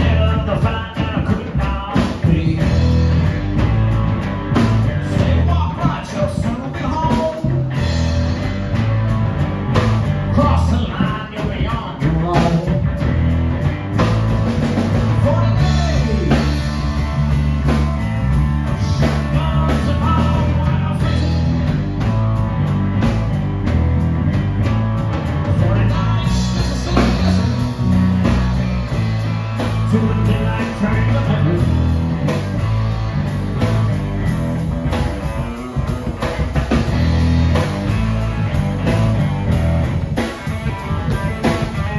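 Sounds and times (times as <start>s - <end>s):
drum kit beat: 0.0s - 41.9s
electric guitars: 0.0s - 41.9s.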